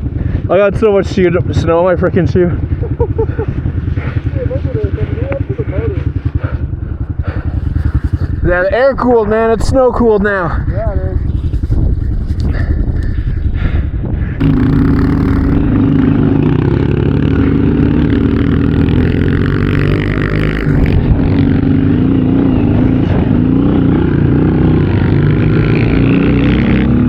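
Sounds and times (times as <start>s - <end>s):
pit bike engine running: 0.0s - 27.0s.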